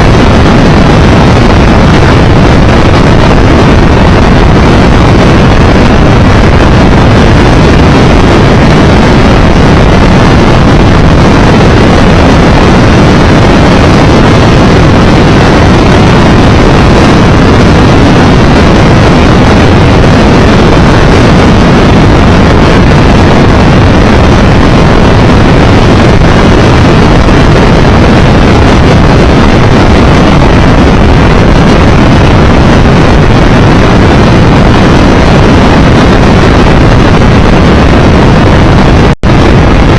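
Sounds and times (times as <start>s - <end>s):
wind roar on microphone: 0.0s - 39.9s.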